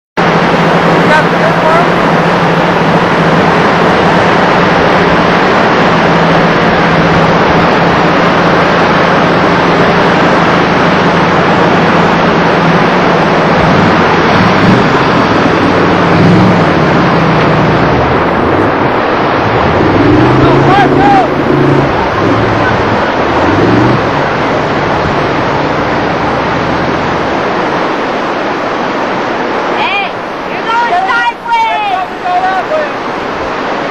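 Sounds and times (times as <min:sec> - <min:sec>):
car engine running: 0:00.2 - 0:28.0
rushing creek water: 0:00.2 - 0:33.9.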